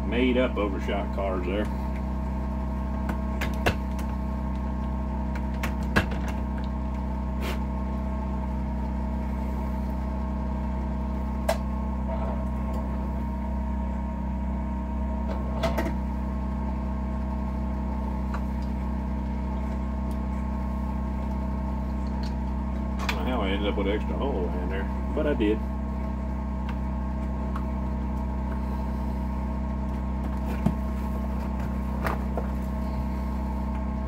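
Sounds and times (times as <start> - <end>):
steady machine hum: 0.0 - 34.0.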